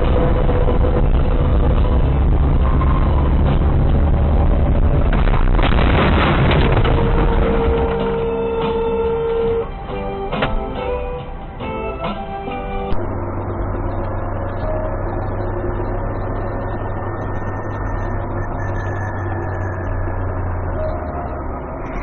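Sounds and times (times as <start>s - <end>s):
car cabin engine and road noise: 0.0s - 22.0s
low steady hum: 0.0s - 22.0s.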